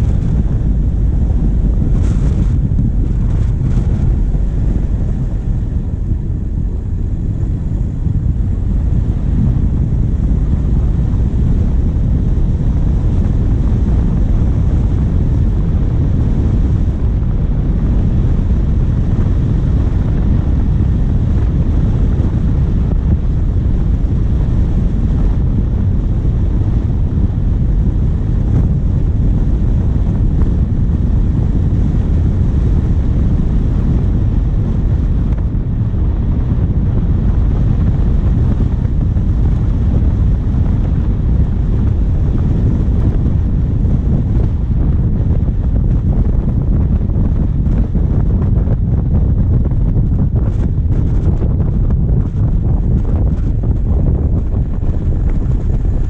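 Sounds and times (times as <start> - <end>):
diesel engine: 0.0 - 48.3
wind buffeting microphone: 0.0 - 56.0.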